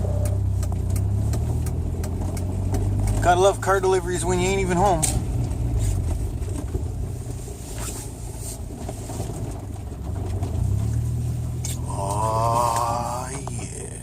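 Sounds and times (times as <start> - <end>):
car engine running slowly: 0.0 - 14.0
road rumble: 0.0 - 14.0.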